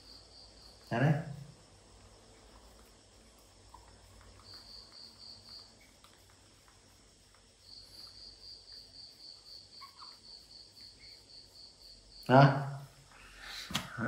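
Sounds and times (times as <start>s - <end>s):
insect chirping trill: 0.0s - 14.0s.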